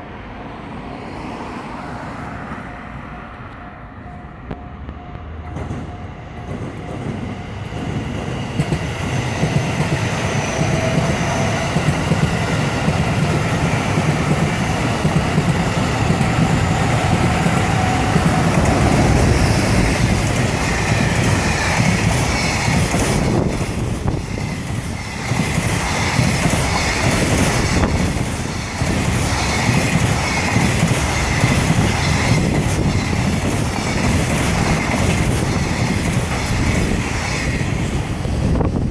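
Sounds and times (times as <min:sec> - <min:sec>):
train wheels clattering over rails: 0:05.0 - 0:38.9.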